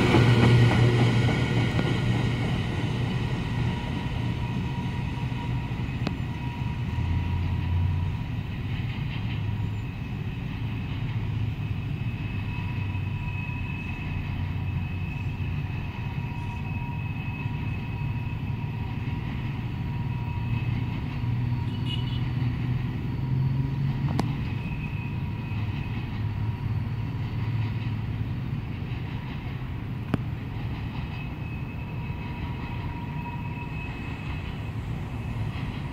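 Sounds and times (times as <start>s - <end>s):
train wheels rumbling on rail: 0.0s - 35.9s.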